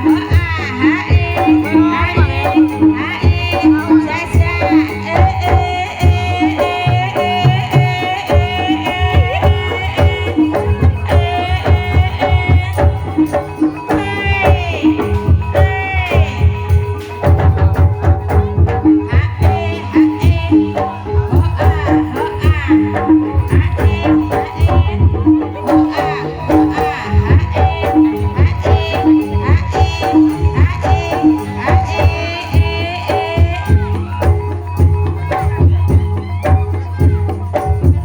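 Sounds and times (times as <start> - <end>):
pitched percussion notes: 0.0 - 38.0
rapid hand-drum strokes: 0.0 - 38.0
wavering melody: 0.0 - 38.0.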